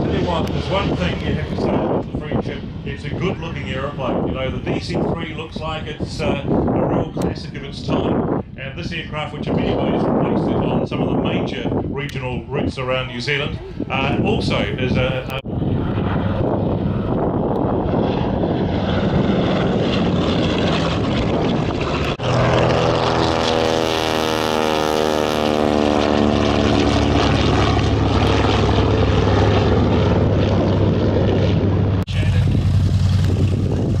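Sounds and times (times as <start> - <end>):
aircraft passing by: 0.0 - 34.0
propeller aircraft engine drone: 0.0 - 34.0.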